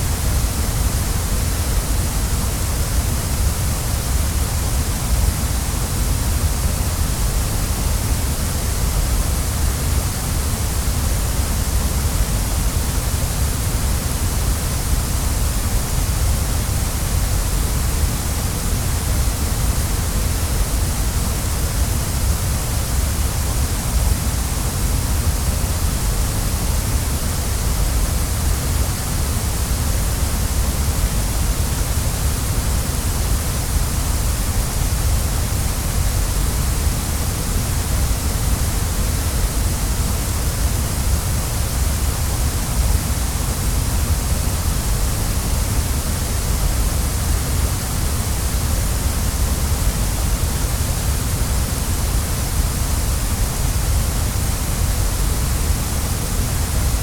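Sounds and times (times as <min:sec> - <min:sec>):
waterfall: 0:00.0 - 0:57.0.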